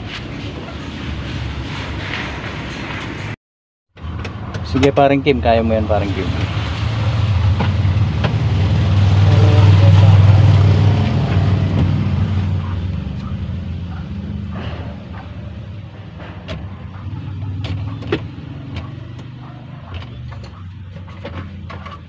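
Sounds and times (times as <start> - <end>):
van engine droning: 4.0 - 22.0.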